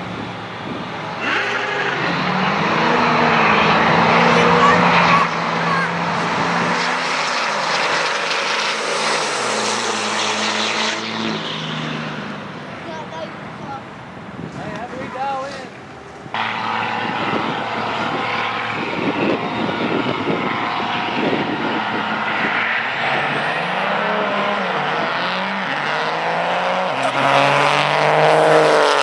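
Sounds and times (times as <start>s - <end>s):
diesel truck passing: 0.0s - 29.0s
trucks revving at full throttle: 0.0s - 29.0s.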